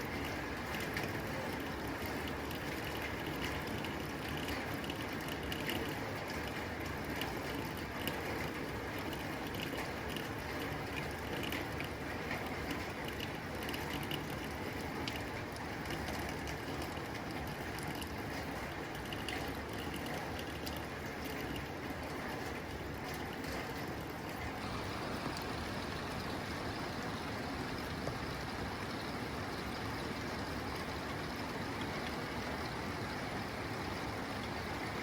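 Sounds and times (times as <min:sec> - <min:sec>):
rain on a tin roof: 0:00.0 - 0:35.0.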